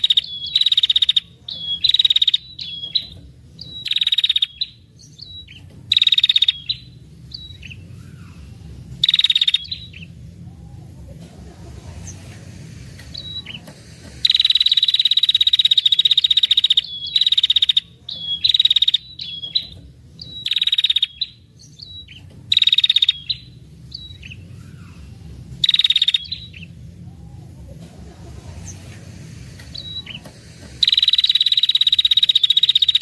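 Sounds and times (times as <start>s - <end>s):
bird sharp chirps: 0.0s - 10.9s, 13.0s - 25.0s, 25.6s - 27.5s, 29.6s - 33.0s
bird trilling: 0.0s - 33.0s.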